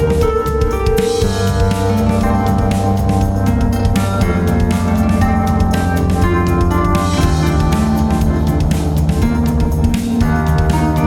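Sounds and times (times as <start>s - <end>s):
drum kit: 0.0s - 11.0s
electric harp with effects: 0.0s - 11.0s.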